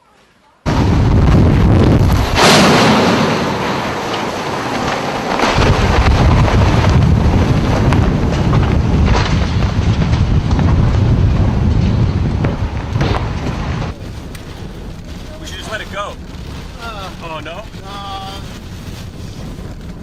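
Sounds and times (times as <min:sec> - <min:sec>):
storm wind buffeting microphone: 0:00.7 - 0:20.0.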